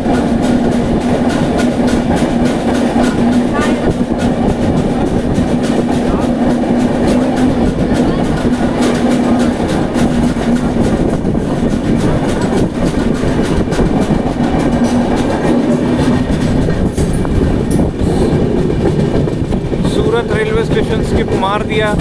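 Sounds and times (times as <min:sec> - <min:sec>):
train rumbling: 0:00.0 - 0:22.0
wheels clicking over rail joints: 0:00.0 - 0:22.0.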